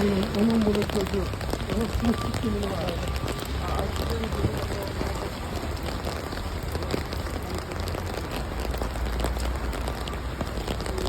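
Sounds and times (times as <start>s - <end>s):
rain on hard surfaces: 0.0s - 11.0s.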